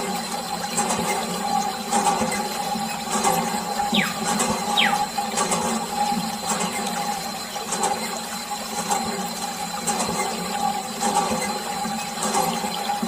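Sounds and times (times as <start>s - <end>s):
water pump motor running: 0.0s - 13.0s
water splashing and pouring: 0.0s - 13.0s.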